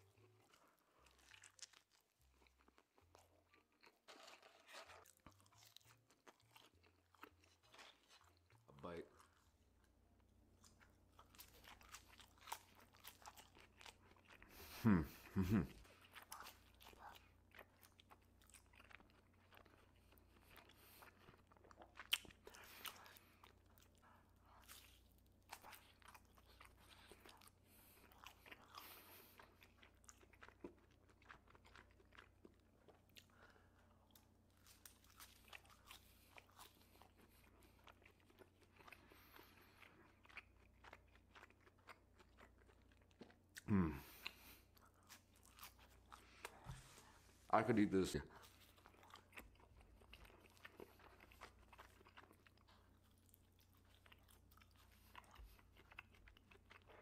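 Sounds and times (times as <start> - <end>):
chewing and biting tortilla: 0.0 - 57.0.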